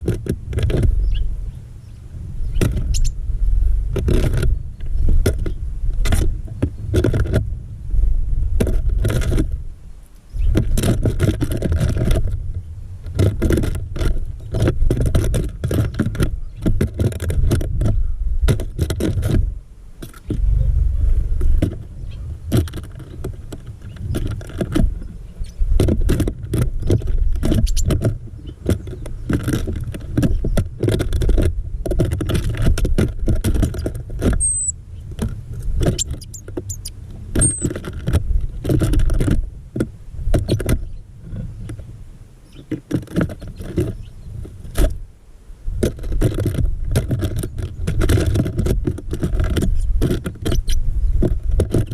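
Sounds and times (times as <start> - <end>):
clicks and scrapes on feeder: 0.0 - 1.2, 3.9 - 7.5, 8.6 - 9.6, 10.4 - 20.4, 22.5 - 41.9, 42.6 - 45.0, 45.8 - 51.9
wind on microphone: 0.0 - 51.9.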